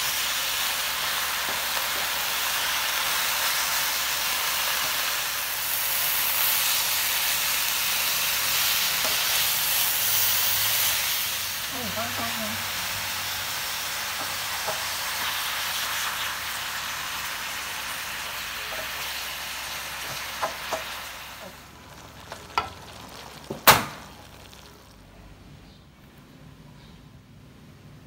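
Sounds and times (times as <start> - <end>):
vegetables and beef sizzling in wok: 0.0 - 25.2.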